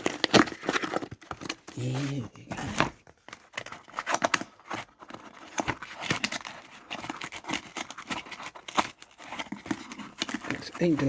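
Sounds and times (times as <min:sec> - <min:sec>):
packaging tearing and crinkling: 0:00.0 - 0:11.0.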